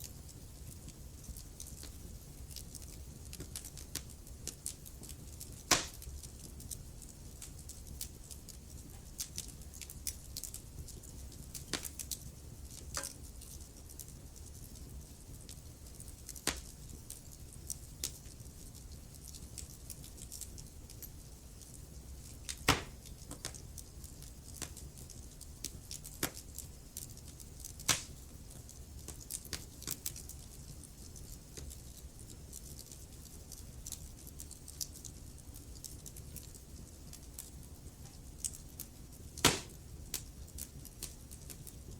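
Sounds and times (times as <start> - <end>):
fire crackling and popping: 0.0 - 41.9
fire low rumble: 0.0 - 41.9.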